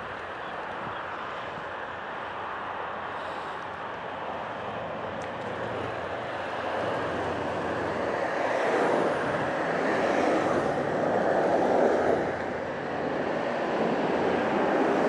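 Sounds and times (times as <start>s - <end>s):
wind over microphone: 0.0s - 1.9s, 3.1s - 15.0s
traffic noise: 0.0s - 15.0s.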